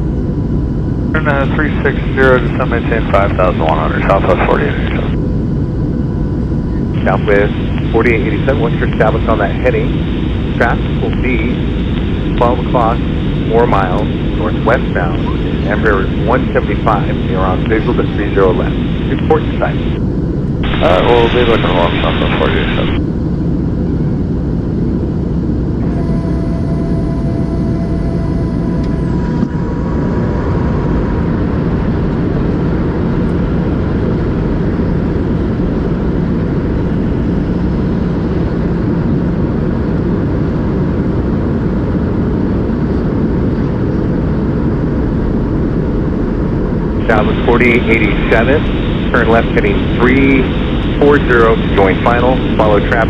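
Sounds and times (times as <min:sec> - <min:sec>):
airplane cabin roar: 0:00.0 - 0:53.0
faint high whine: 0:00.0 - 0:53.0.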